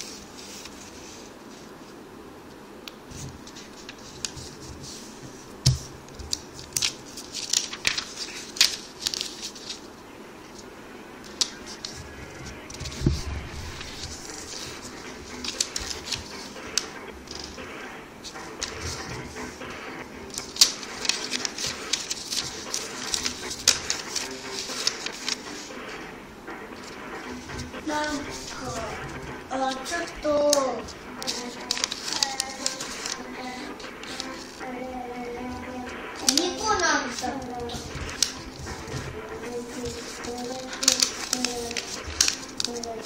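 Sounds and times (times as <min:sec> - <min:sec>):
paper crackling and rustling: 0:00.0 - 0:01.9, 0:02.9 - 0:43.0.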